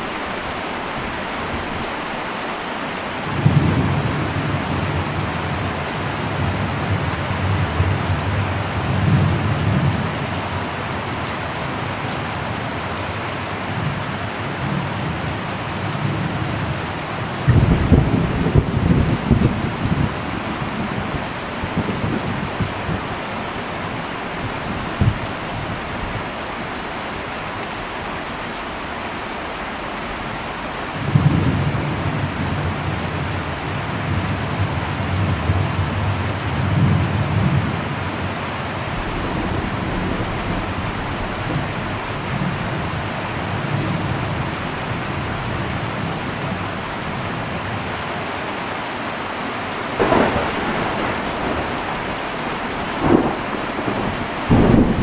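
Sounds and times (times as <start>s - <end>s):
heavy rain on a metal roof: 0.0s - 55.0s
low rolling thunder: 3.2s - 12.6s, 13.5s - 26.6s, 30.9s - 47.6s, 49.9s - 55.0s.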